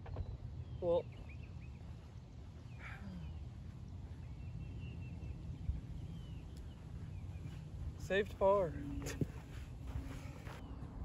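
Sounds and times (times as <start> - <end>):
faint bird chirps: 0.0 - 9.2.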